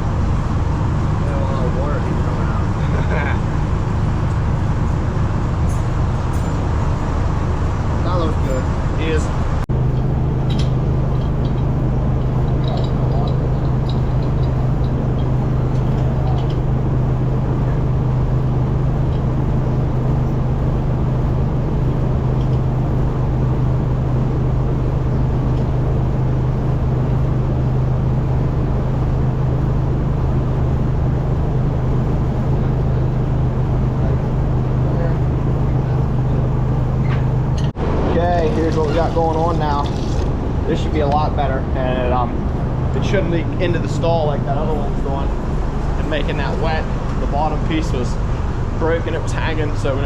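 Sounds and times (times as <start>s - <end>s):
loud machine hum: 0.0s - 50.0s.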